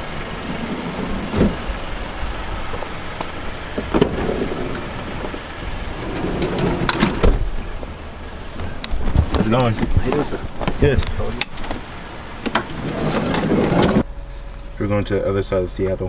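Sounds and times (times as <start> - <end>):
car door opening: 0.0 - 14.1
outdoor noise: 0.0 - 16.0
knocks and rustling: 0.4 - 14.1.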